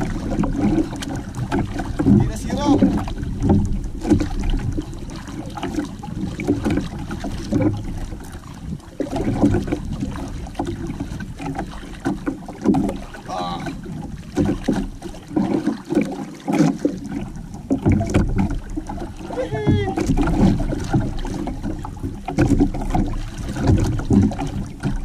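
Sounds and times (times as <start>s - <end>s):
water lapping against canoe hull: 0.0s - 25.0s.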